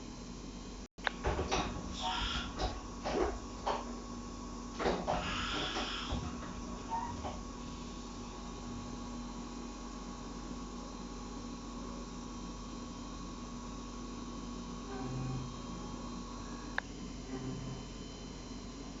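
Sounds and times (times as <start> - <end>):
milling machine humming and whining: 0.6 - 19.0.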